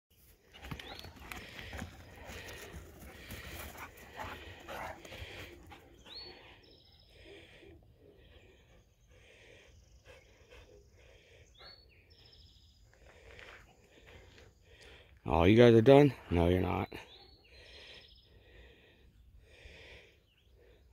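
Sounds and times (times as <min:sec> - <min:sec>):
faint outdoor sound: 0:00.1 - 0:20.9.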